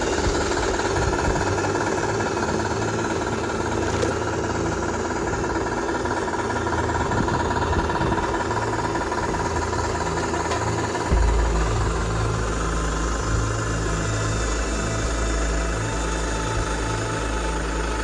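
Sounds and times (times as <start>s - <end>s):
toy car engine idling: 0.0s - 18.0s.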